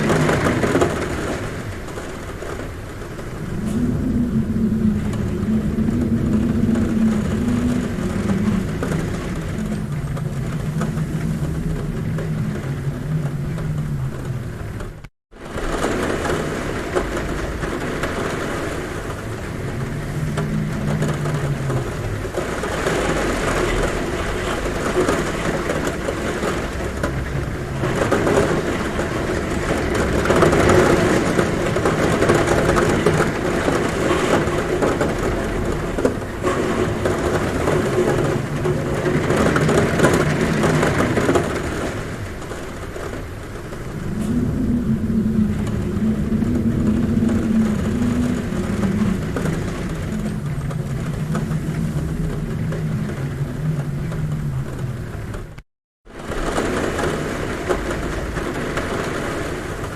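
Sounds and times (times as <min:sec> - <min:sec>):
heavy rain on a roof: 0:00.0 - 0:59.9
wind humming and moaning: 0:00.0 - 0:59.9.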